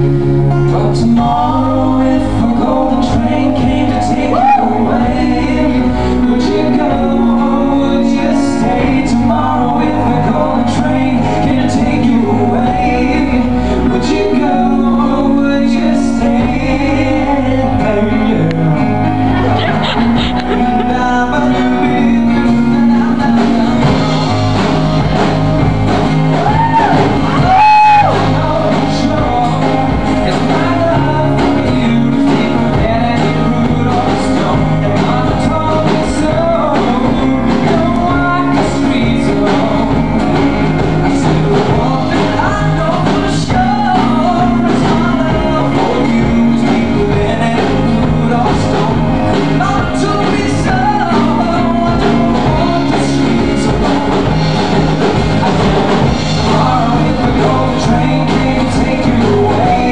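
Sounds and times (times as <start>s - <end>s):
instrumental accompaniment: 0.0s - 59.9s
man singing: 0.0s - 59.9s.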